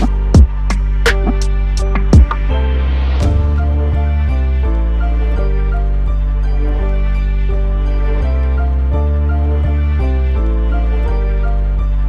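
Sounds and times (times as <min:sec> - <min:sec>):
slow gentle instrumental music: 0:00.0 - 0:12.0.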